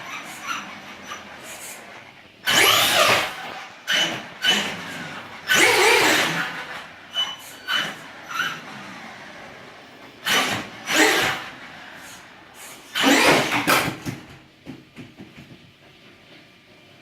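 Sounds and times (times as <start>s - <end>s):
toy truck motor whirring: 0.0s - 14.0s.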